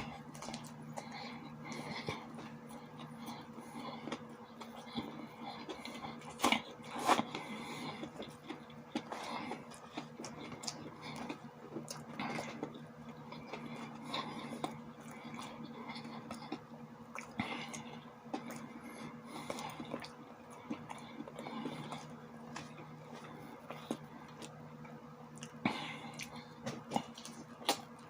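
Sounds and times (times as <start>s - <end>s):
person chewing: 0.0s - 28.0s
steady low hum: 0.0s - 28.0s.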